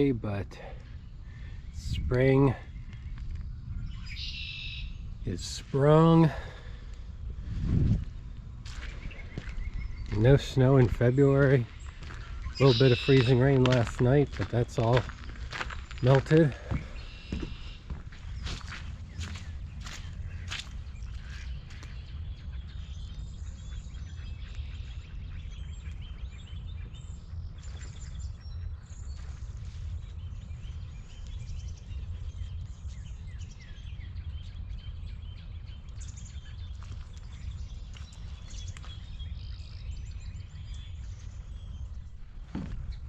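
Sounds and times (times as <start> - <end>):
small birds chirping: 0.0 - 43.0
steady low rumble: 0.0 - 43.0.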